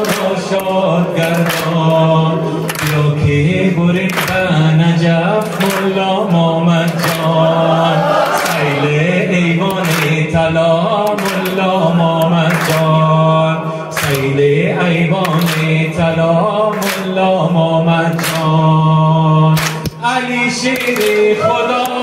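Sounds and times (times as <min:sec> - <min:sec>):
men singing devotional song: 0:00.0 - 0:22.0.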